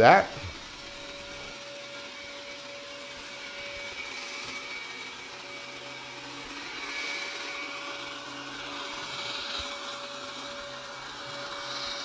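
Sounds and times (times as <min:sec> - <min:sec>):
robotic vacuum cleaner whirring: 0:00.0 - 0:12.0.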